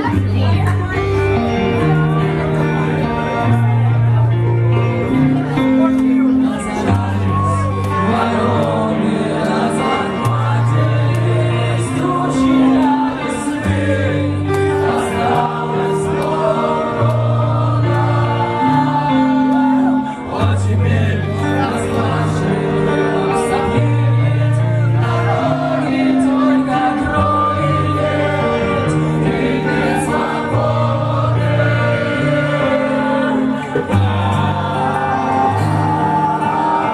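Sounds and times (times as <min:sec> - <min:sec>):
held bass notes: 0:00.0 - 0:36.9
people singing: 0:06.1 - 0:36.9.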